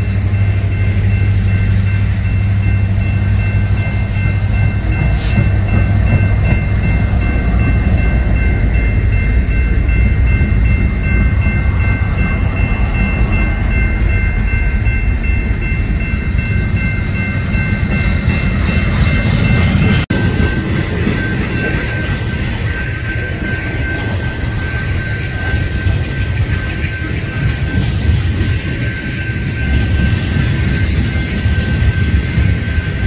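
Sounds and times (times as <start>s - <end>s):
diesel locomotives rumbling: 0.0s - 33.0s
high whine: 0.0s - 33.0s.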